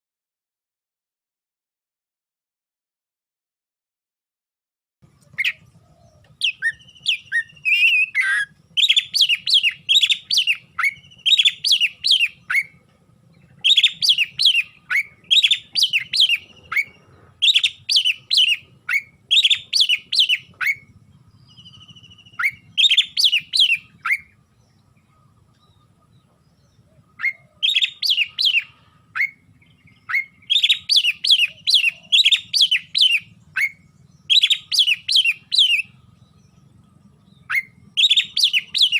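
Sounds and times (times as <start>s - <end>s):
bird singing sharp whistled notes: 5.3s - 12.8s, 13.4s - 38.9s.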